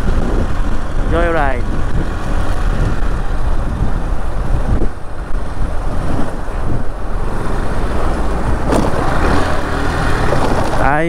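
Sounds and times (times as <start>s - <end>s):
motorcycle riding: 0.0s - 11.0s
road noise: 0.0s - 11.0s
wind rumble on microphone: 0.0s - 11.0s.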